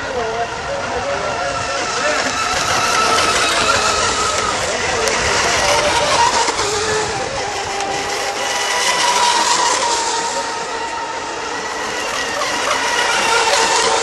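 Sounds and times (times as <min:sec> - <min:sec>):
electric racing boats whining: 0:00.0 - 0:14.0.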